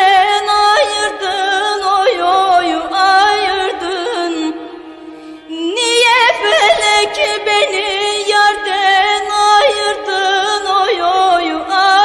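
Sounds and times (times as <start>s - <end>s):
ornamented folk melody: 0.0s - 12.0s.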